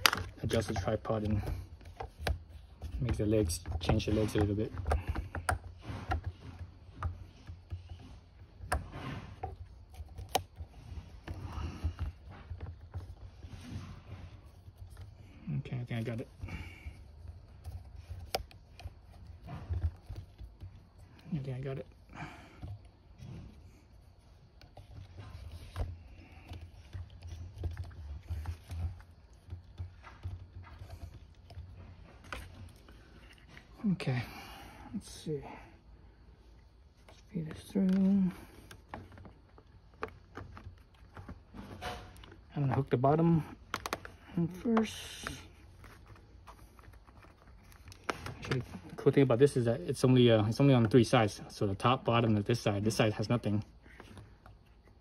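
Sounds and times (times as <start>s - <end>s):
handling rustling: 0.0s - 35.3s, 36.1s - 55.0s.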